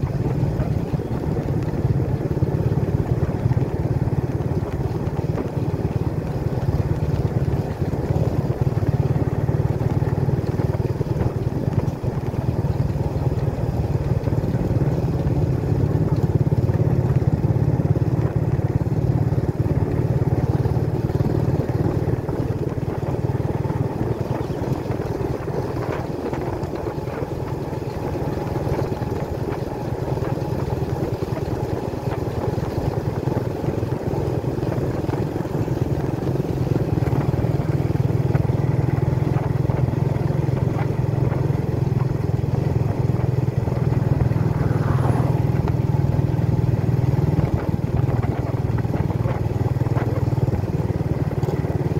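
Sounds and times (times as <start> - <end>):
motorcycle engine cruising: 0.0 - 51.9.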